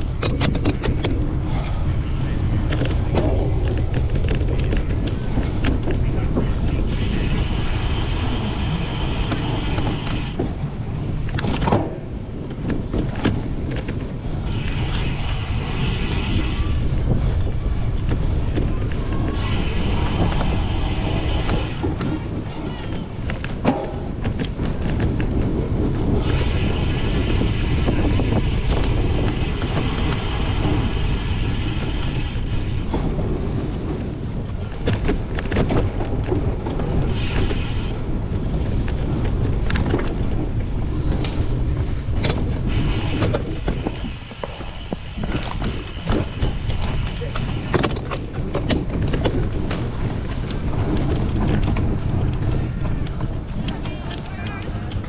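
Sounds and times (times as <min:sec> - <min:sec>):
bike rattling over bumps: 0:00.0 - 0:55.0
bike road rumble: 0:00.0 - 0:55.0
wind rush: 0:00.0 - 0:55.0.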